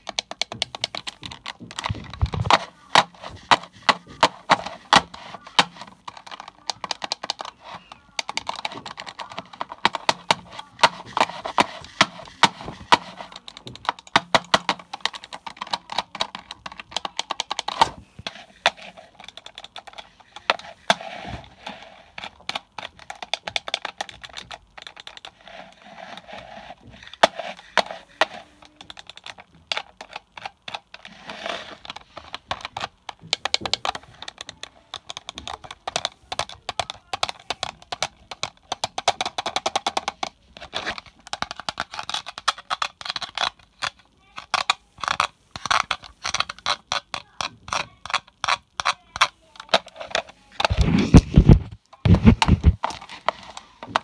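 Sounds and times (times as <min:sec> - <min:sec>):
computer mouse clicking: 0:00.0 - 0:50.9.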